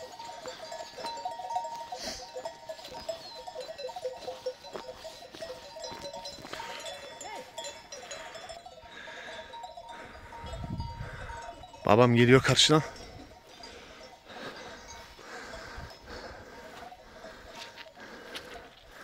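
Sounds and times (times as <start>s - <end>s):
sheep bells clinking: 0.0s - 19.0s.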